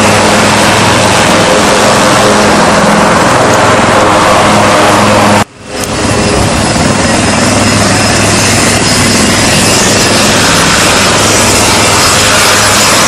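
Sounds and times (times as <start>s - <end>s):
helicopter rotor turning: 0.0s - 13.0s
turboshaft engines whining: 0.0s - 13.0s.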